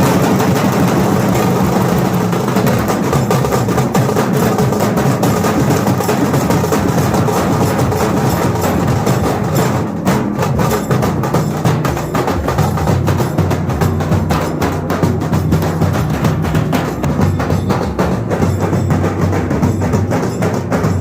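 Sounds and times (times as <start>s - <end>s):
loud music with fast drum beats: 0.0s - 21.0s.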